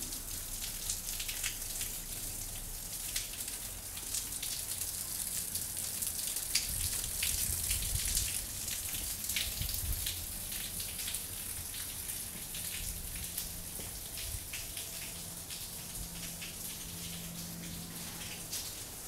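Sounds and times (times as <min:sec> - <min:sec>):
waterfall splashing onto stone: 0:00.0 - 0:19.0.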